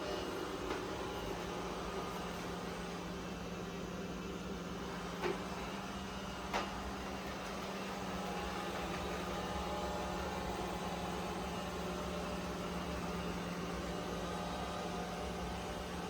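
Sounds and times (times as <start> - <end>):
robot vacuum humming: 0.0 - 16.0.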